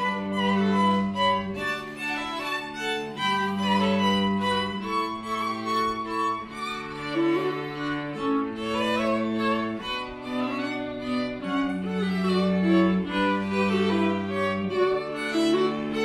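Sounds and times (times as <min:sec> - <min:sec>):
cello long low notes: 0:00.0 - 0:16.0
violin melody: 0:00.0 - 0:16.0.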